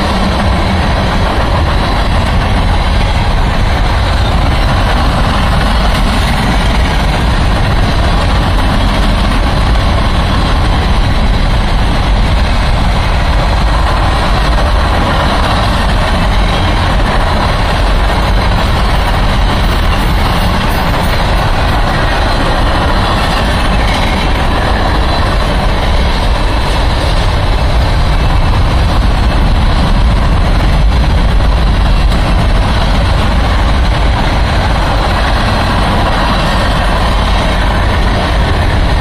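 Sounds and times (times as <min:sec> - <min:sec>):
freight train wheels rumbling: 0:00.0 - 0:39.0.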